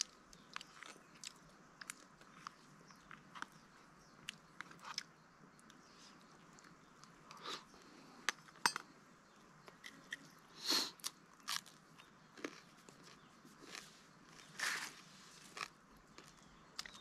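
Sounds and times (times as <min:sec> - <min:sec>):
person chewing and crunching food: 0:00.0 - 0:07.7, 0:11.0 - 0:17.0.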